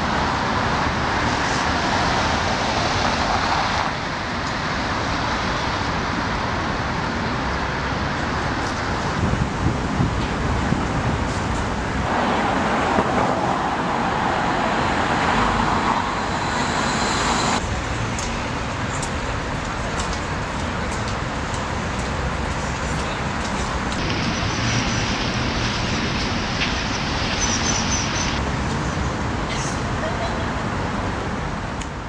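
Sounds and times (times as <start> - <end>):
city traffic noise: 0.0 - 32.0.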